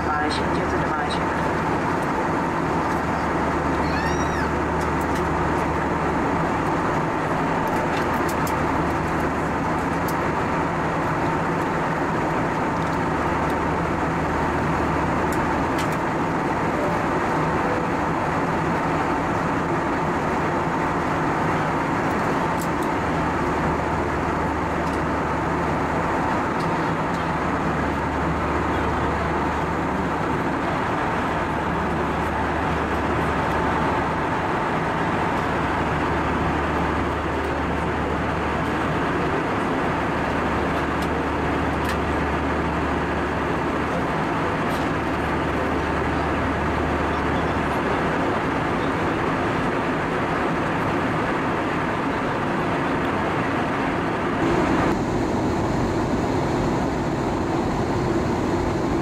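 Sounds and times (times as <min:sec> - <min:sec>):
airplane cabin noise: 0:00.0 - 0:59.0
jet engine whine: 0:00.0 - 0:59.0.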